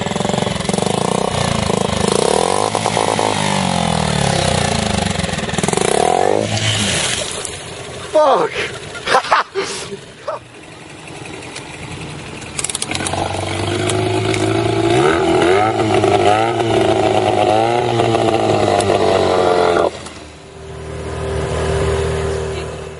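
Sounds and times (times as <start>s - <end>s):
outboard motor revving: 0.0s - 22.9s
steady engine hum: 0.0s - 22.9s.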